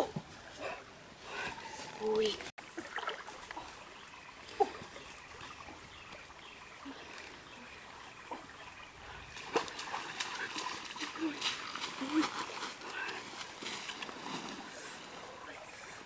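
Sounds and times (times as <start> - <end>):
stream trickling: 0.5 - 16.0
feet wading in water: 2.6 - 16.0.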